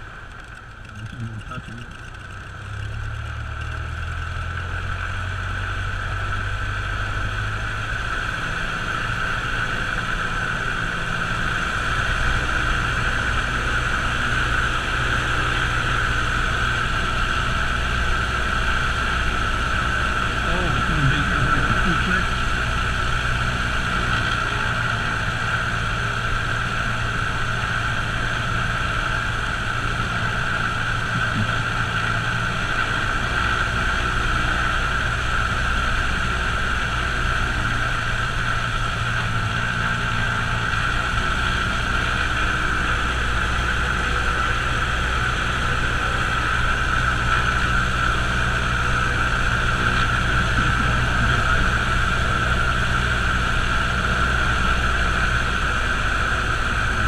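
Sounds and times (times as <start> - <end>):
aircraft engine and propeller drone: 0.0 - 57.0.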